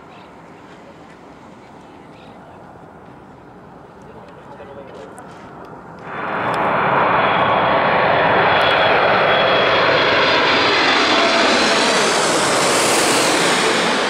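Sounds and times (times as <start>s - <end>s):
jet roar overhead: 2.6s - 14.0s.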